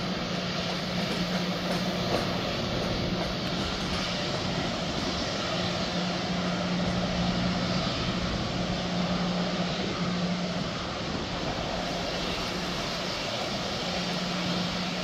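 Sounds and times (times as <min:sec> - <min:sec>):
freight cars rolling drone: 0:00.0 - 0:15.0.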